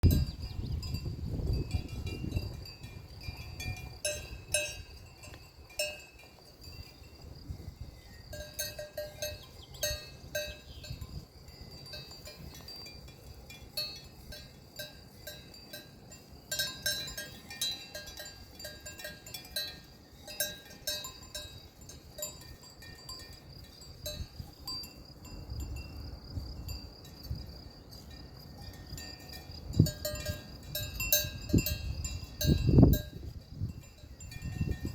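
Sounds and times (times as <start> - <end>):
cowbells clanking: 0.0 - 26.0, 27.8 - 34.9.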